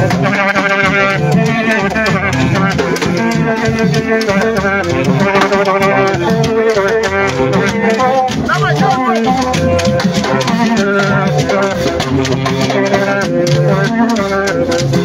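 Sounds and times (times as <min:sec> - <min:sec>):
metal horns blowing held notes: 0:00.0 - 0:15.0
rattles shaking: 0:00.0 - 0:15.0.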